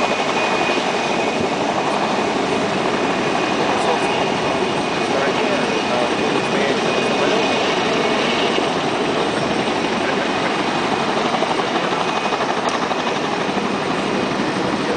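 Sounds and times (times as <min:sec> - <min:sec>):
helicopter engine and rotor noise: 0:00.0 - 0:14.9.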